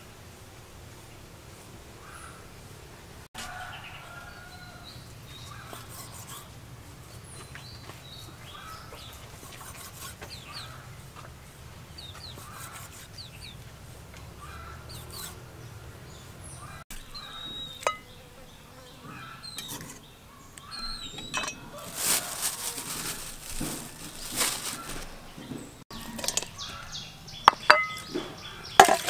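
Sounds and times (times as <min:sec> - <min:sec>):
small birds chirping: 0:03.5 - 0:29.0.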